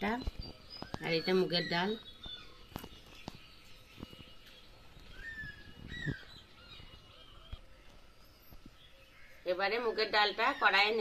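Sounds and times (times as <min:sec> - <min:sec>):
birds chirping: 0:00.0 - 0:11.0
rising and falling whistled calls: 0:00.0 - 0:11.0.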